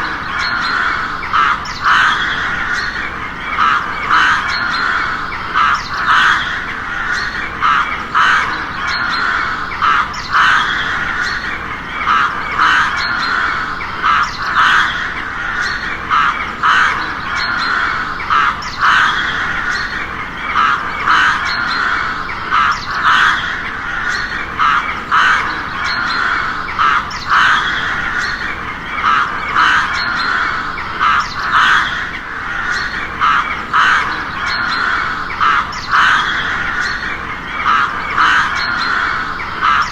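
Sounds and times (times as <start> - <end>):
crow cawing: 0.0 - 39.9.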